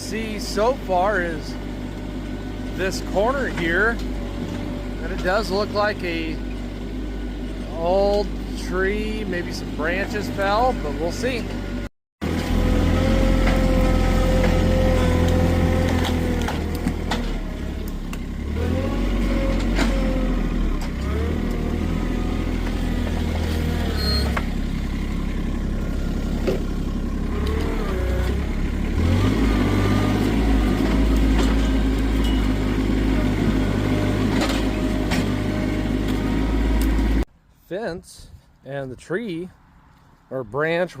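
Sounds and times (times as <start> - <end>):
vehicle engine running: 0.0 - 37.3.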